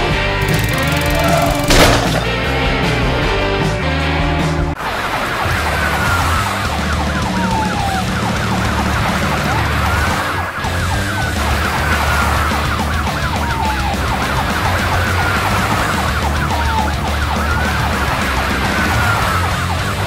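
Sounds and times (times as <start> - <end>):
police siren yelp: 1.0 - 1.9, 4.8 - 20.0
police siren wail: 1.0 - 2.2, 4.8 - 20.0.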